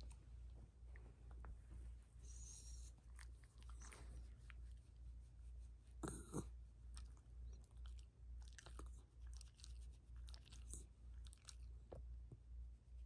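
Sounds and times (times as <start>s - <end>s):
low pulsing hum: 0.0s - 13.0s.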